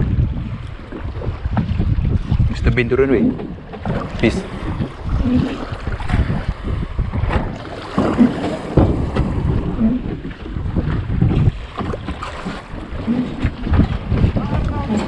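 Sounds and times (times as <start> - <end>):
sea water around hull: 0.0 - 15.0
wind buffeting microphone: 0.0 - 15.0.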